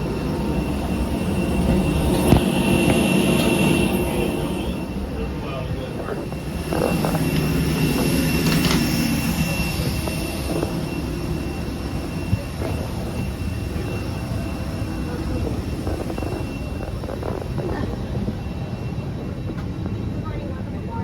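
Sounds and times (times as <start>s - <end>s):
jet airliner hum: 0.0s - 21.0s
low drone: 0.0s - 21.0s
thin high whine: 0.0s - 21.0s.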